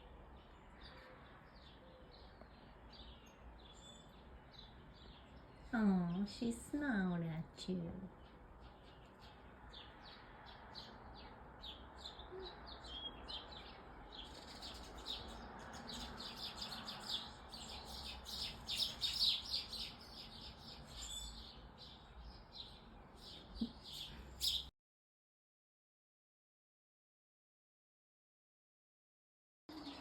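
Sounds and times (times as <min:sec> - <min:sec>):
small birds chirping: 0:00.0 - 0:24.7, 0:29.7 - 0:30.0.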